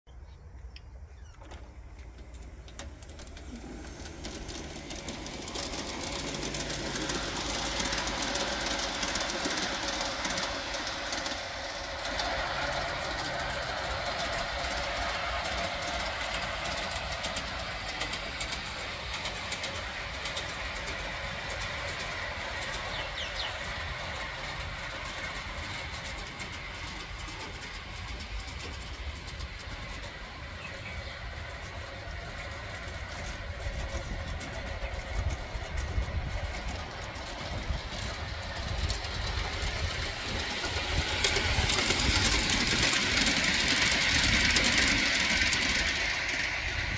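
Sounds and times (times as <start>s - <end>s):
model train rolling rumble: 0.1s - 46.9s
wheels clicking over rail joints: 0.1s - 46.9s.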